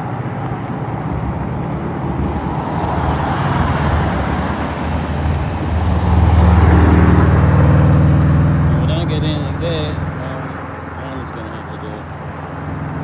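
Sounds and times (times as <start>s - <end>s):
tyre and road noise: 0.0s - 13.0s
vehicle engine humming: 0.0s - 13.0s.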